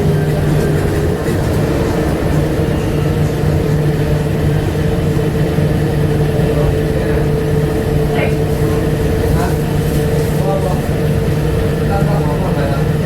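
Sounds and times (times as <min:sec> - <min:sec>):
steady humming tones: 0:00.0 - 0:13.0
train cabin rumble: 0:00.0 - 0:13.0.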